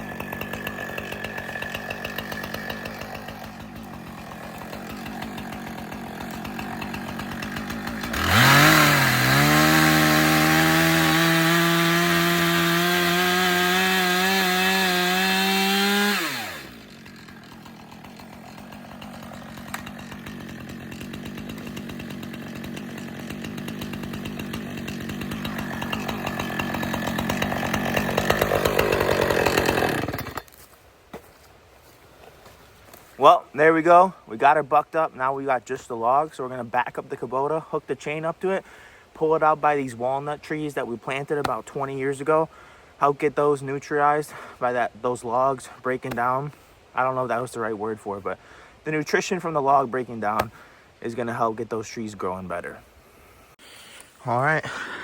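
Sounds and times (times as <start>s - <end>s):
chainsaw cutting log: 0.0s - 33.1s, 35.2s - 42.5s, 45.1s - 47.6s, 48.4s - 55.0s.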